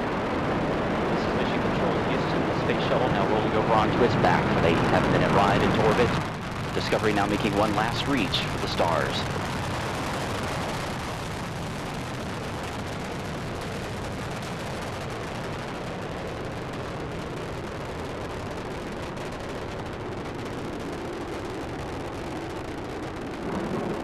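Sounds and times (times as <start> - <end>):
rocket engines rumbling: 0.0 - 24.0.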